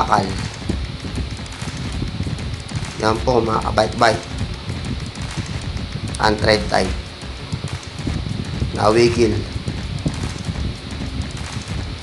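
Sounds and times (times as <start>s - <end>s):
freewheel cogs clicking: 0.0s - 12.0s.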